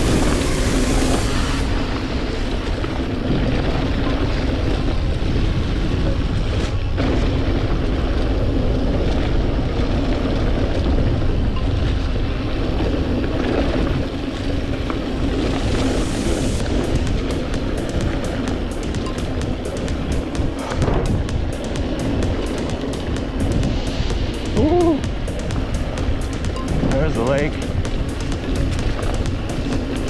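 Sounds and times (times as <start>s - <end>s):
bike tyres rolling on dirt: 0.0s - 30.0s
wind on camera microphone: 0.0s - 30.0s.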